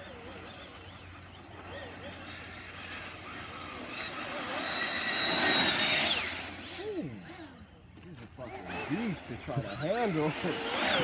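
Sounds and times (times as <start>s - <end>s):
rc car ducted fan whine: 0.0s - 11.0s.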